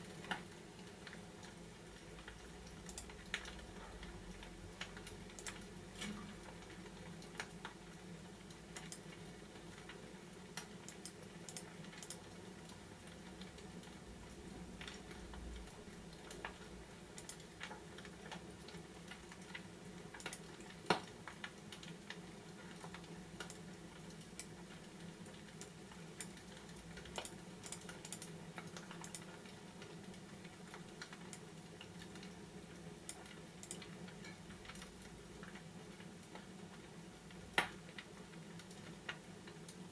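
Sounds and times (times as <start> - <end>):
fireplace crackling and popping: 0.0 - 39.9.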